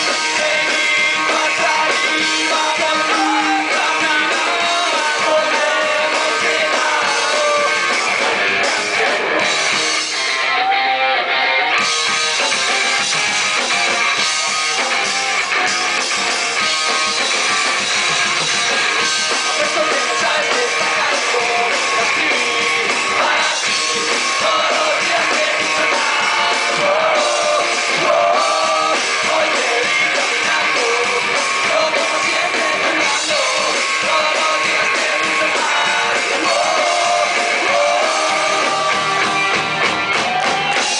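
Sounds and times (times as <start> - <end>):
drum kit: 0.0 - 10.8, 11.7 - 40.9
bass guitar: 0.0 - 40.9
electric guitars: 0.0 - 40.9.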